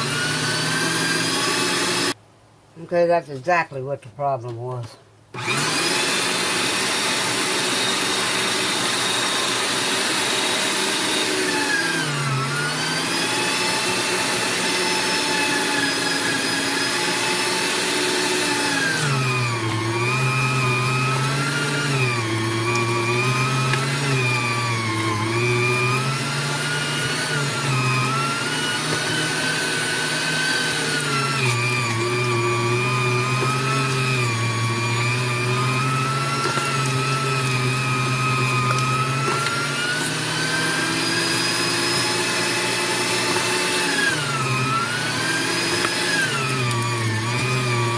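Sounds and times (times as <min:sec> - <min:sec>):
electric meat grinder motor: 0:00.0 - 0:02.2, 0:05.4 - 0:47.9.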